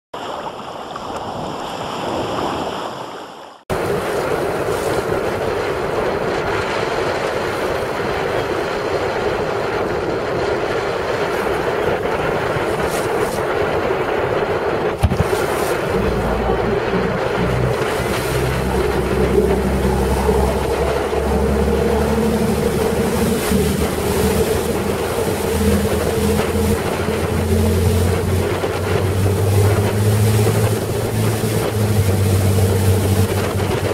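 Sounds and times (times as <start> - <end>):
water rushing past boat: 0.2 - 33.9
wind buffeting microphone: 3.7 - 33.9
boat motor droning: 3.8 - 33.9.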